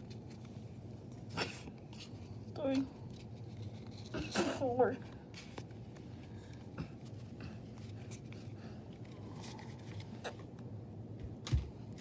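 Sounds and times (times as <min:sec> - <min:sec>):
cards clicking and scraping: 0:00.0 - 0:10.6
low steady background noise: 0:00.0 - 0:12.0.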